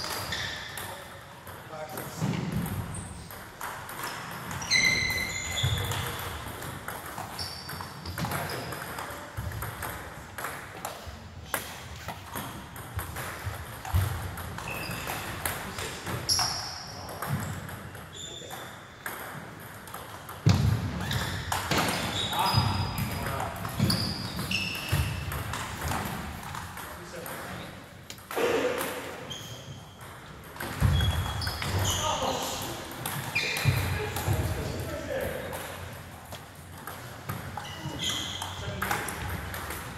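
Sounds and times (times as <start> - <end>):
table tennis balls pinging: 0.0 - 39.9.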